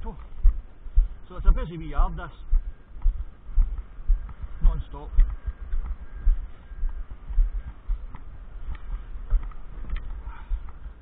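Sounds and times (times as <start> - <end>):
footsteps on wet tarmac: 0.0 - 11.0.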